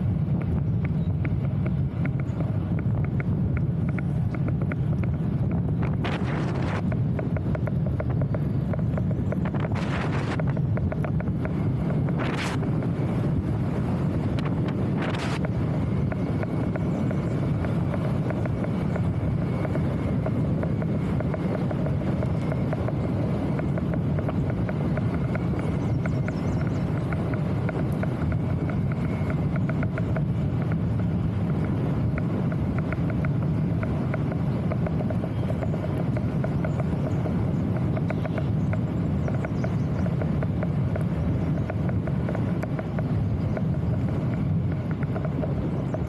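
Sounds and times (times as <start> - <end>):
wind buffeting microphone: 0.0 - 46.0
faint rapid ticking: 0.8 - 46.0
rolling noise: 1.3 - 46.0.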